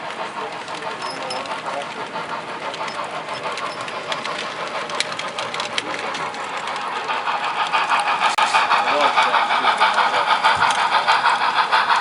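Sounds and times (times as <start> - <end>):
model train motor running: 0.0 - 12.0.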